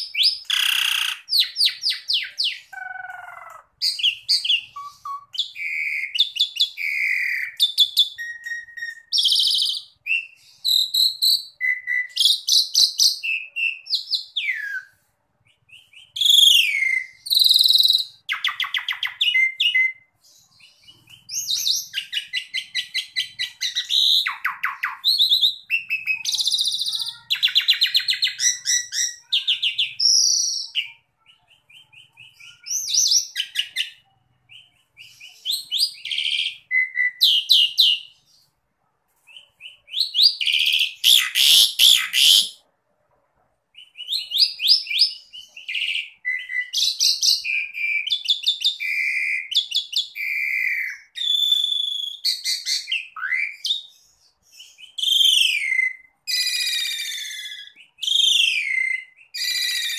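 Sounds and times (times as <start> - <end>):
starling singing: 0.0 - 38.5, 39.3 - 42.6, 43.8 - 59.9.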